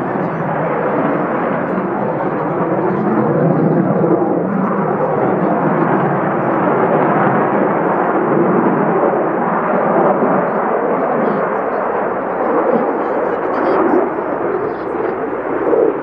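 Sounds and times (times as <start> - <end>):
fighter jet engine noise: 0.0 - 16.0.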